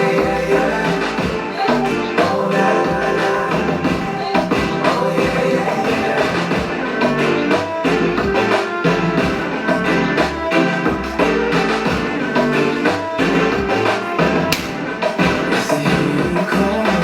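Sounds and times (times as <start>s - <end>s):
pop song with drum beat: 0.0s - 17.0s.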